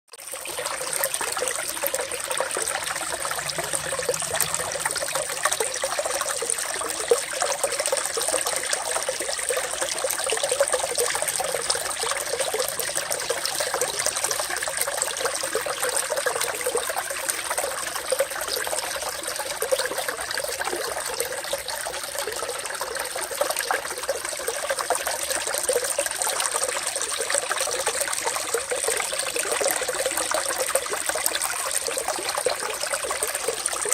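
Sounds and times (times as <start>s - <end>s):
water trickling and splashing: 0.1s - 33.9s.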